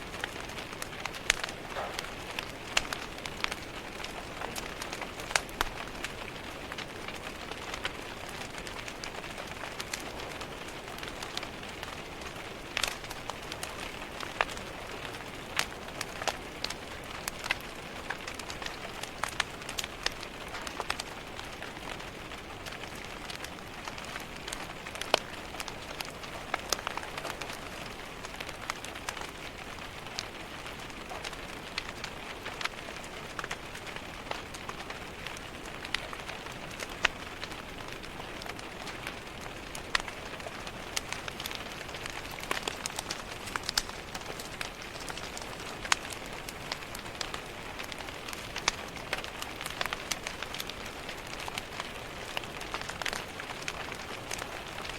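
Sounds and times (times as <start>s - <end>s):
rain pattering on glass: 0.0s - 54.9s
wood fire crackling and popping: 0.0s - 54.9s.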